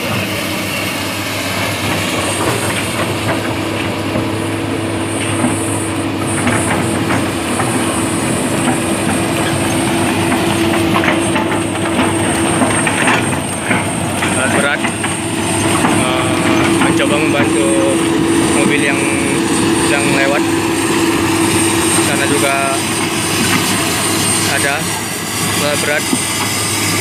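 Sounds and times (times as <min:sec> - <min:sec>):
clanks and squeaks of steel tracks: 0:00.0 - 0:27.0
excavator diesel engine droning: 0:00.0 - 0:27.0.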